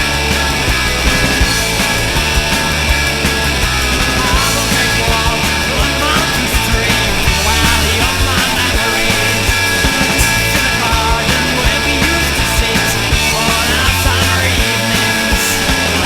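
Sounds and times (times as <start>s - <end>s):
rock band music: 0.0s - 16.0s.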